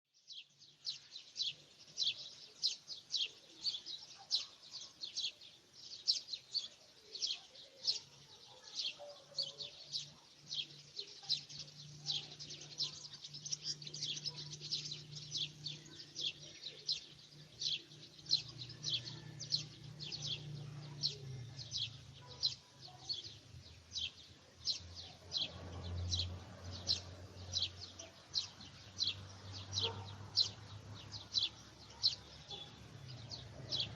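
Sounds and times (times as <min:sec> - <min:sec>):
birds chirping: 0:00.2 - 0:33.9.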